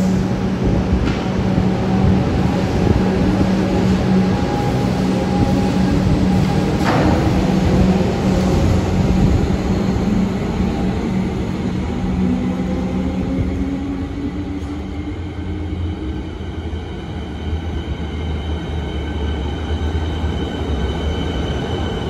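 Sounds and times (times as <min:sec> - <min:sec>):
thin high whine of slowing train: 0:00.0 - 0:22.0
train rumbling along platform: 0:00.0 - 0:22.0.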